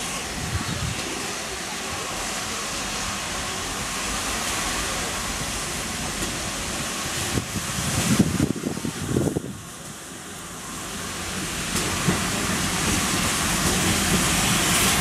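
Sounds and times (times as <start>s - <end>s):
steady hiss of steam: 0.0s - 15.0s
steam locomotive running slowly: 0.0s - 15.0s.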